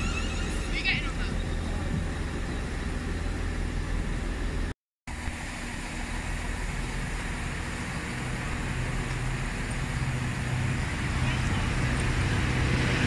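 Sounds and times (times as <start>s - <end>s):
approaching electric train hum: 0.0s - 13.0s
electric train hum and rumble: 0.0s - 13.0s.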